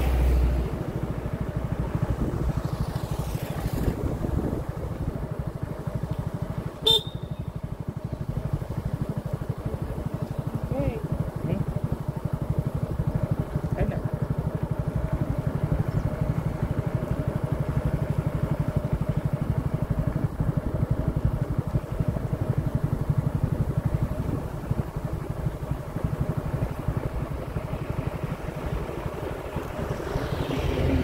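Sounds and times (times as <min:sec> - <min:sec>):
engine running with fast pulsing: 0:00.0 - 0:31.0.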